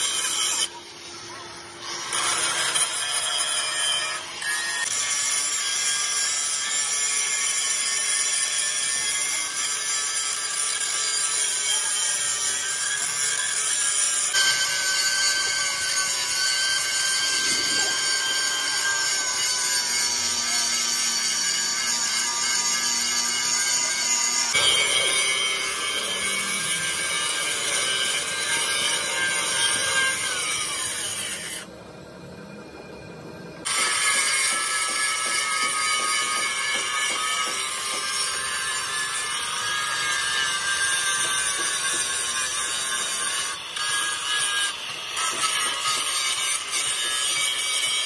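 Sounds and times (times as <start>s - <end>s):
angle grinder cutting steel: 0.0s - 31.7s, 33.6s - 48.0s.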